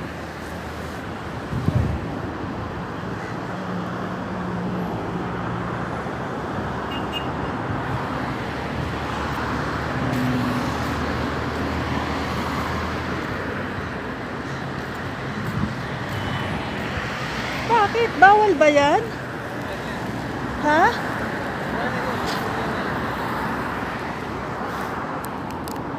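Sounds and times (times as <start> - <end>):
traffic rumble: 0.0 - 25.9.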